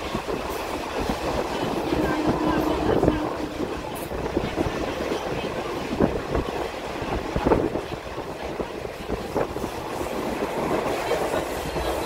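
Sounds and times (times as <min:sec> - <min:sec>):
train wheels rumbling on rails: 0:00.0 - 0:12.0
wind rushing over microphone: 0:00.0 - 0:12.0.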